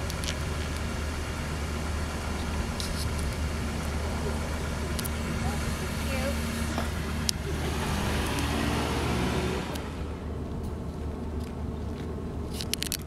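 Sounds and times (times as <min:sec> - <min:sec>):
road traffic rumble: 0:00.0 - 0:13.0
vehicle engine running: 0:00.0 - 0:13.0.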